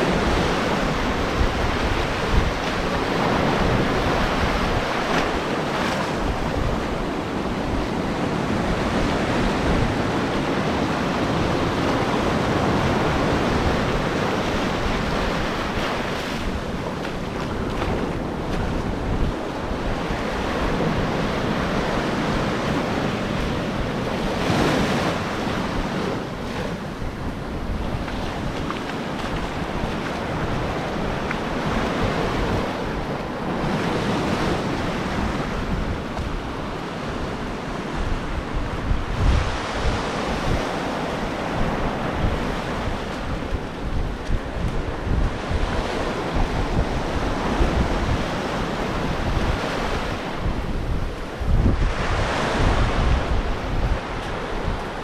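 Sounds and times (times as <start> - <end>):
ocean surf washing onto shore: 0.0 - 55.0
wind buffeting microphone: 0.0 - 55.0.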